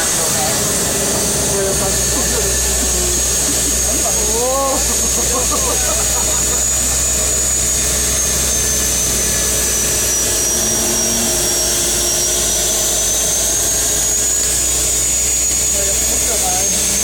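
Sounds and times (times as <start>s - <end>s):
turboprop engine with high whine: 0.0s - 17.0s.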